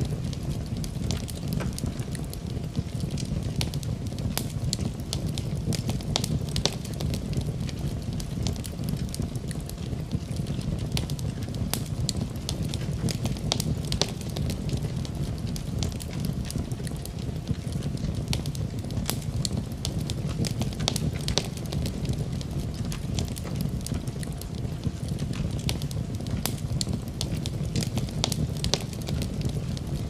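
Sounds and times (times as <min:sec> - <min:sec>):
fire crackling: 0:00.0 - 0:30.0.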